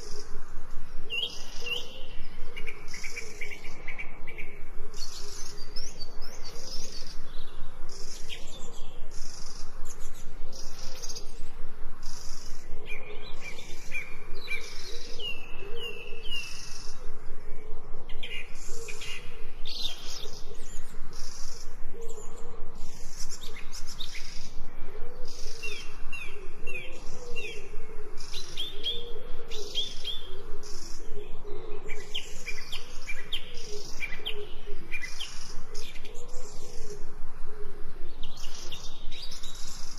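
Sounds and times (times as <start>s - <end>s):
pulsing insect chirp: 0.0s - 39.9s
birds whistling: 1.1s - 17.1s, 18.1s - 37.1s.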